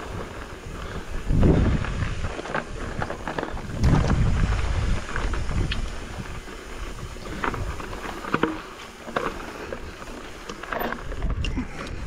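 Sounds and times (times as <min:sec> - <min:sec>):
wind rumble on microphone: 0:00.0 - 0:08.5, 0:09.3 - 0:12.0
bike knocking and rattling: 0:00.0 - 0:12.0
bike tyres crunching on gravel: 0:00.0 - 0:12.0.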